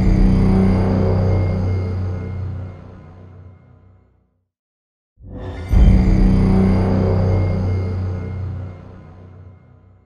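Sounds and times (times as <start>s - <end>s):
suspenseful trailer music: 0.0s - 4.3s, 5.2s - 10.0s.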